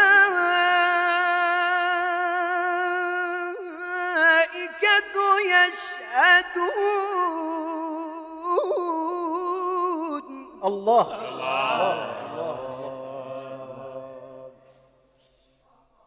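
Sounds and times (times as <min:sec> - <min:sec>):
man reciting melodically: 0:00.0 - 0:14.8.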